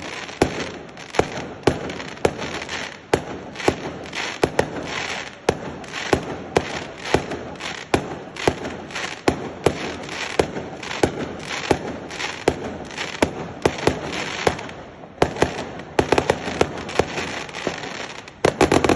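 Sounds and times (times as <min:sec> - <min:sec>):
firecrackers banging: 0:00.0 - 0:18.9.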